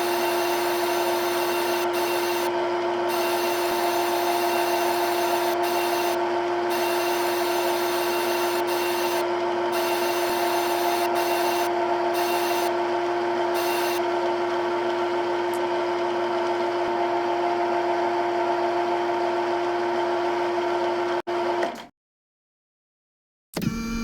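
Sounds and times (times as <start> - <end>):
milling machine spindle hum: 0.0 - 21.6.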